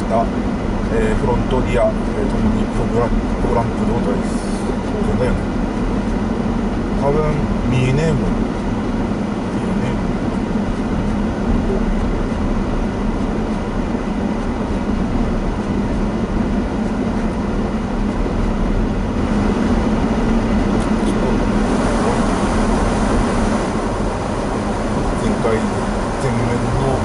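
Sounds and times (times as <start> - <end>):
tyres rumbling on snowy road: 0.0 - 27.0.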